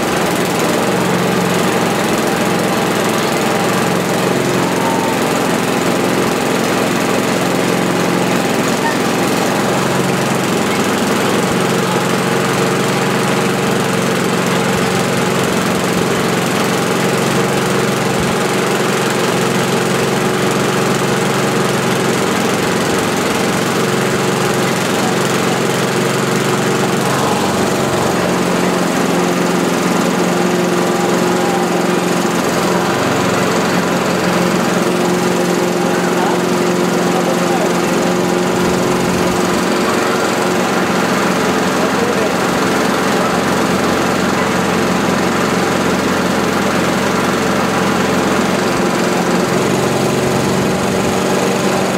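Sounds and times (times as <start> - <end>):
lawnmower engine running: 0.0 - 51.9.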